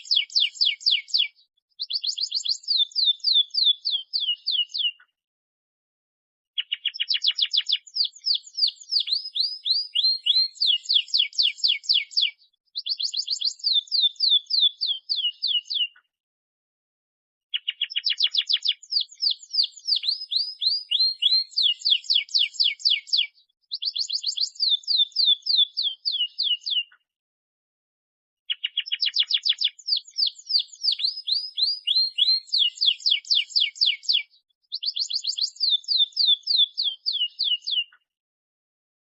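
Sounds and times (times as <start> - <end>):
canary singing: 0.0 - 5.0, 6.6 - 16.0, 17.5 - 27.0, 28.5 - 38.0.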